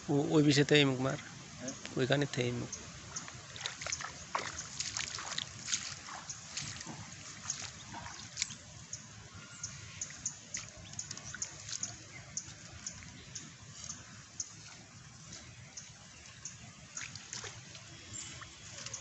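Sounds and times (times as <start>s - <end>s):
bare feet splashing through water: 2.8s - 19.0s.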